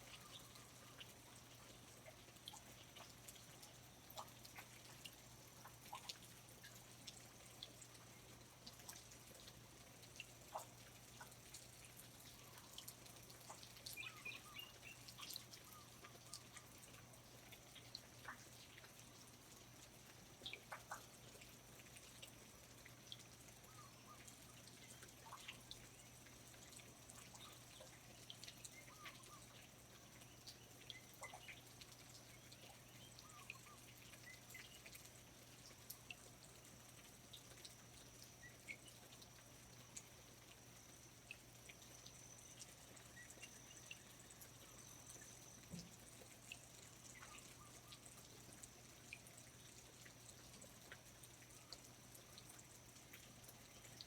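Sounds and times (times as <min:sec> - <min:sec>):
water drips: 0:00.0 - 0:54.0.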